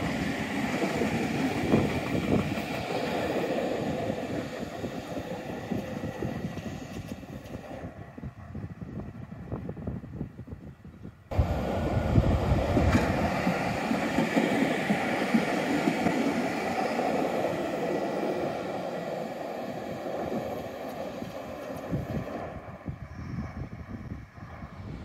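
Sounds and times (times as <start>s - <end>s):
tram wheels rumbling on rails: 0.0s - 10.6s, 11.3s - 25.0s.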